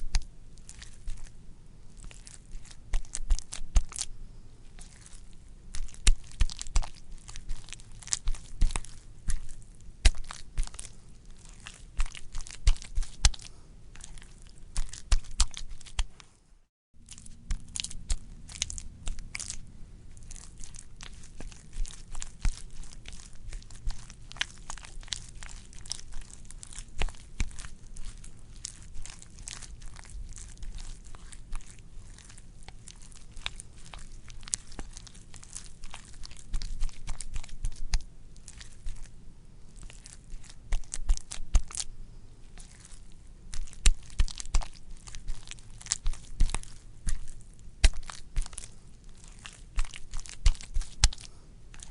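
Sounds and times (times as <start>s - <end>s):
wet squishing and squelching: 0.0s - 16.3s, 17.0s - 51.9s.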